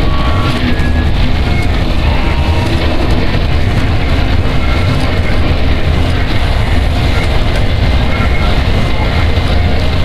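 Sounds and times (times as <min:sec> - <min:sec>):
harsh noise music: 0:00.0 - 0:10.0.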